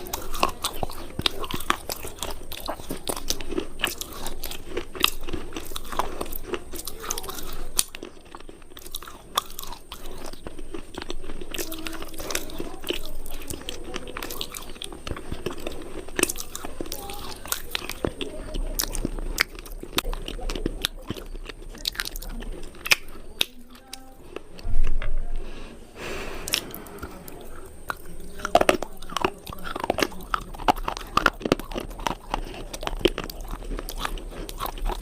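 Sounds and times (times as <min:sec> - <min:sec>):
crunching hard cubes with teeth: 0:00.0 - 0:23.6, 0:26.4 - 0:35.0.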